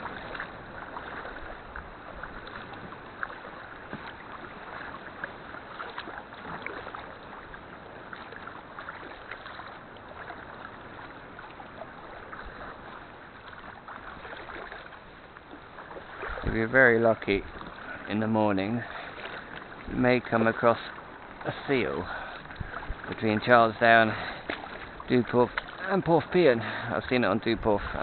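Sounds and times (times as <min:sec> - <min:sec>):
water splashing around kayak paddle: 0:00.0 - 0:28.0.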